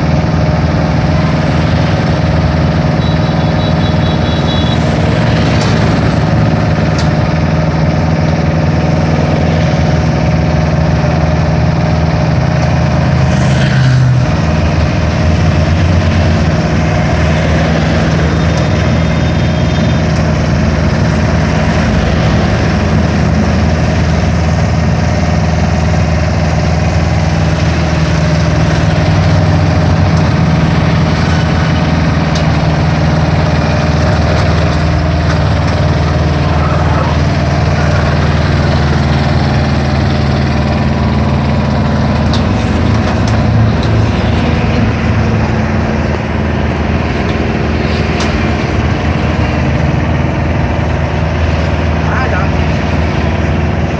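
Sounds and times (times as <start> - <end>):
combine harvester diesel engine: 0.0 - 53.9.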